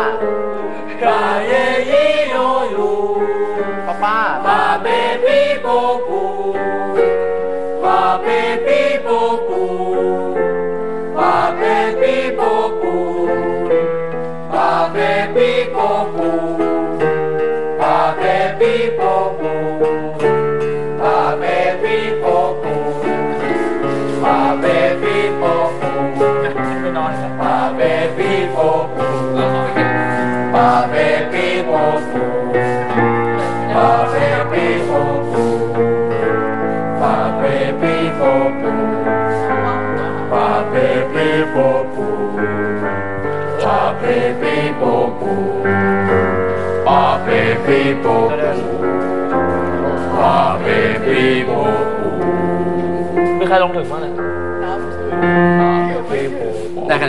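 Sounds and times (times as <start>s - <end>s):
young voices singing: 0.0s - 57.0s.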